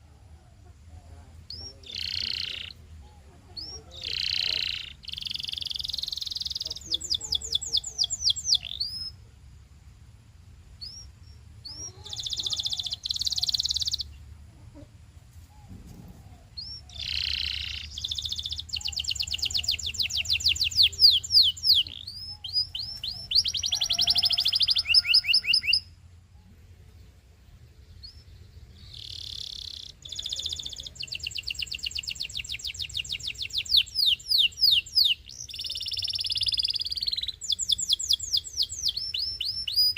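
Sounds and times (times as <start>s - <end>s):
faint low hum: 0.0s - 39.9s
canary singing: 1.4s - 9.2s, 10.8s - 14.3s, 16.5s - 26.0s, 27.8s - 39.9s.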